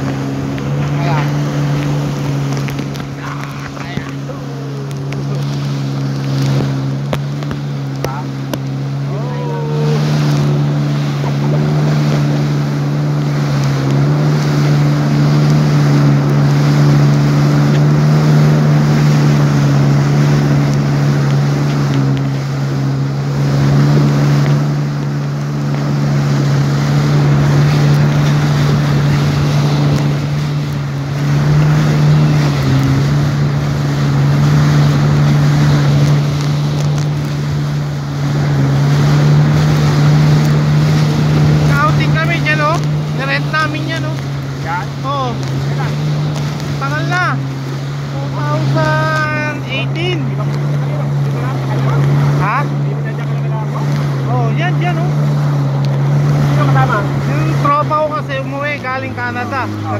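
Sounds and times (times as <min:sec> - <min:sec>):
jet ski engine droning: 0:00.0 - 0:59.9
water spray rushing: 0:00.0 - 0:59.9.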